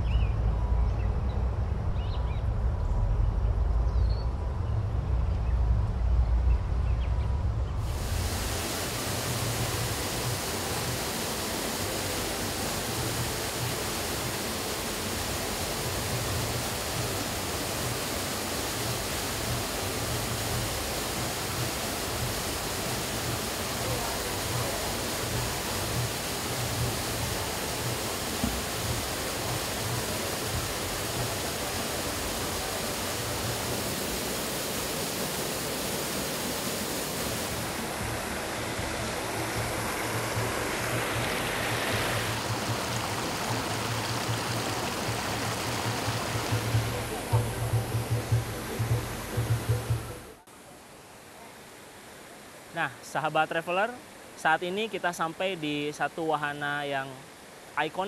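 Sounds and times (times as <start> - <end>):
waterfall rushing into pool: 7.8 - 58.0.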